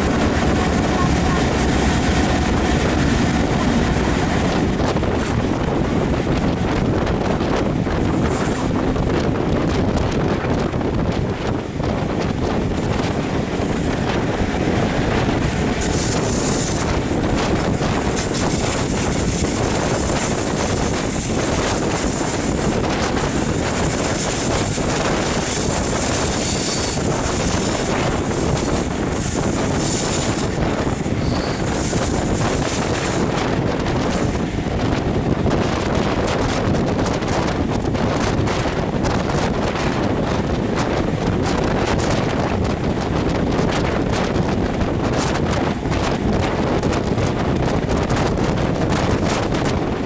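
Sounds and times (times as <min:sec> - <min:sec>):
train rumbling along track: 0:00.0 - 0:50.0
wind buffeting microphone: 0:00.0 - 0:50.0.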